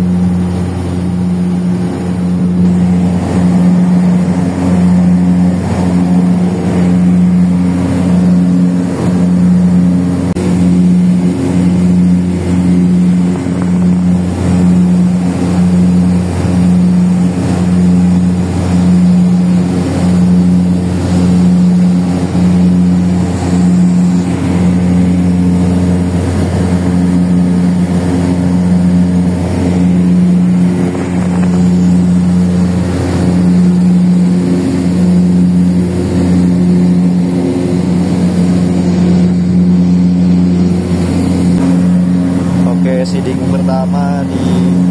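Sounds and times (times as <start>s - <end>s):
aircraft engines droning in cabin: 0.0s - 44.9s.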